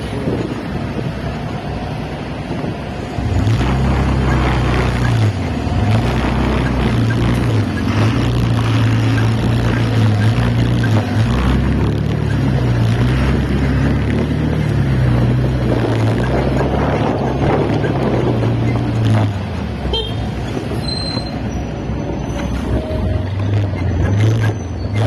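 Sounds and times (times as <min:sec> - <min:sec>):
bus engine drone: 0:00.0 - 0:25.0
road and wind noise: 0:00.0 - 0:25.0.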